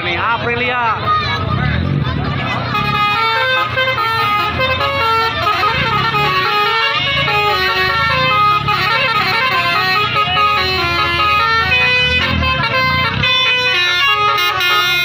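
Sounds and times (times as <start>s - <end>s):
bus musical horn melody: 2.6s - 15.0s.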